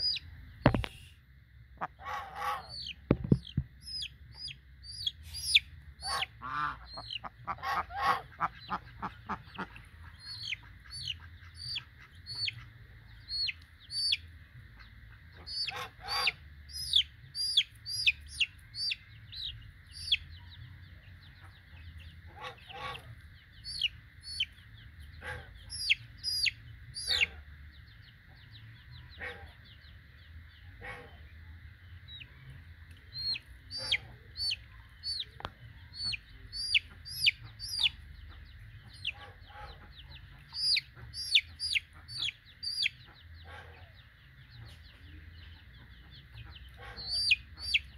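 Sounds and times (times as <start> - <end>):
chicks peeping: 0.0 - 1.1, 1.8 - 47.9.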